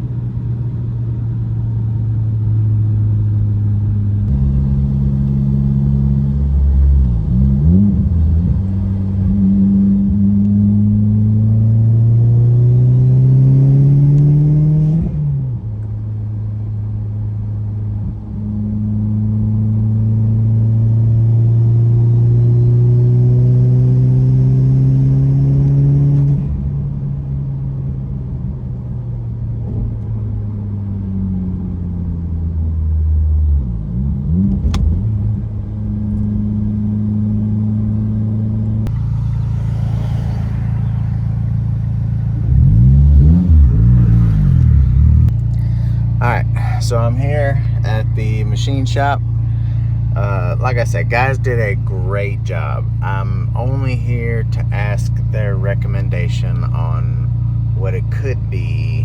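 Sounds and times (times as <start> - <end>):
turbocharged car engine accelerating: 0.0 - 16.0, 17.8 - 28.8, 29.6 - 59.0.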